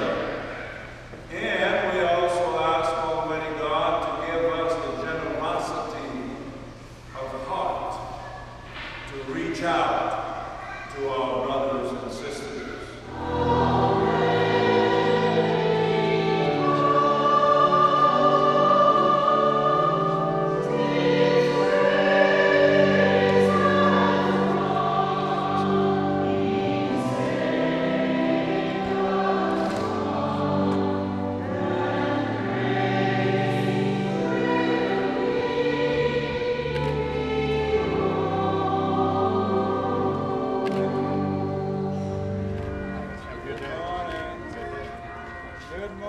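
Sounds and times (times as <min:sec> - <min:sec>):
choir singing a hymn: 0:00.0 - 0:10.3, 0:11.0 - 0:46.0
pipe organ sustained low notes: 0:00.0 - 0:46.0.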